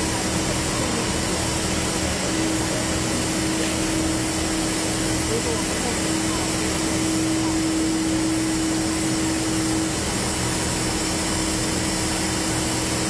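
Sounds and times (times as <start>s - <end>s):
cleaning machine rushing noise: 0.0s - 13.0s
machine hum: 0.0s - 13.0s.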